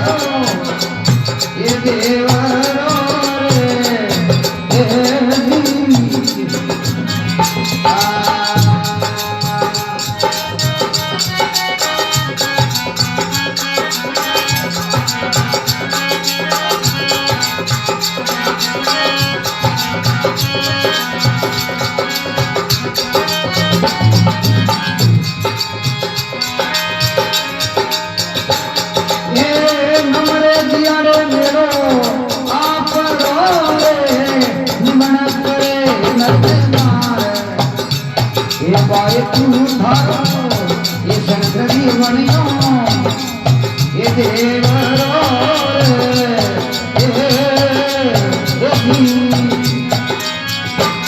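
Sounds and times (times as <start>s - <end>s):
percussion beat: 0.0s - 51.0s
folk music melody: 1.5s - 51.0s.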